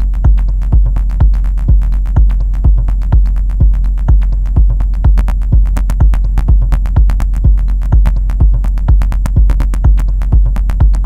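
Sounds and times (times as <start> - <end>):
crisp hi-hat clicks: 0.0 - 11.0
kick drum: 0.0 - 11.0
sustained deep bass: 0.0 - 11.0.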